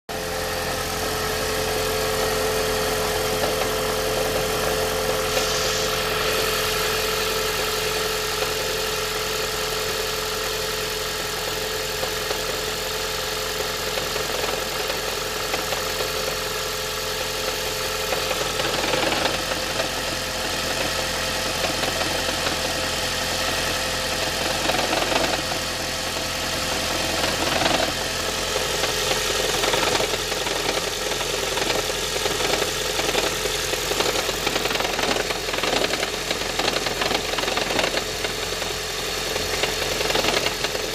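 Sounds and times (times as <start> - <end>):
car engine running roughly: 0.0 - 40.9.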